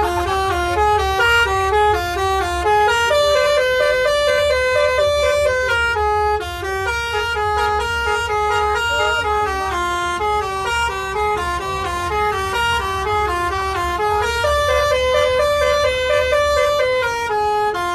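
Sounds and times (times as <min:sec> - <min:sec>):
multi-tone musical bus horn: 0:00.0 - 0:17.9.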